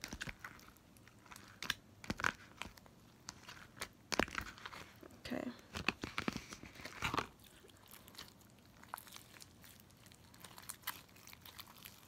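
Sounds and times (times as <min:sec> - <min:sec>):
slime squelch: 0:00.0 - 0:12.0.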